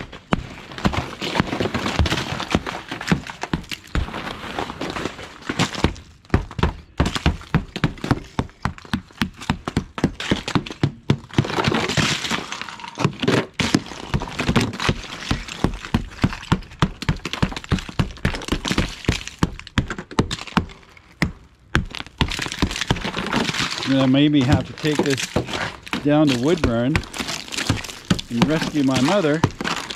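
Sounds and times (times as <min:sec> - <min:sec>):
ice cracking and shattering: 0:00.0 - 0:08.5, 0:09.4 - 0:29.9
rubber mallet thunking on ice: 0:00.0 - 0:29.9.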